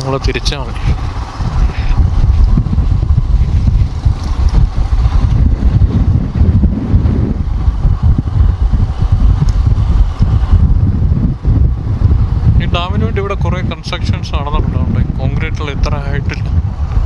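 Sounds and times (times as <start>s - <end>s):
motorcycle engine: 0.0s - 17.0s
wind buffeting microphone: 0.0s - 17.0s.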